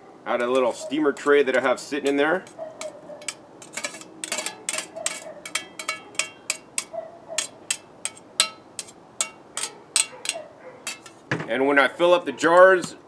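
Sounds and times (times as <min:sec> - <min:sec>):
metal tongs clinking on tray: 0:00.4 - 0:11.2.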